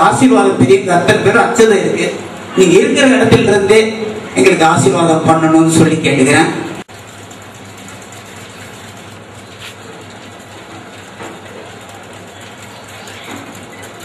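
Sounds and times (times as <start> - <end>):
crowded hall room noise: 0.0 - 14.0.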